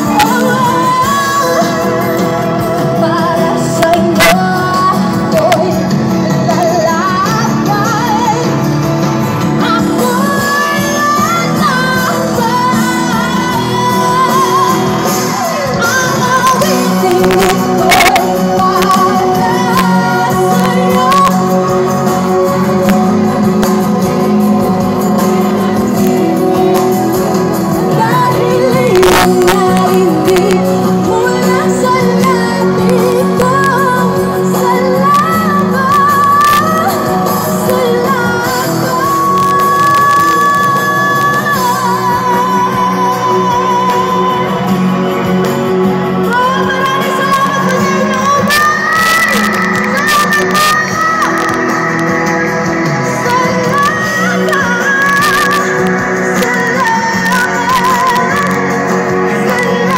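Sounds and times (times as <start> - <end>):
live pop band through pa: 0.0 - 59.9
woman singing into microphone: 0.0 - 59.9.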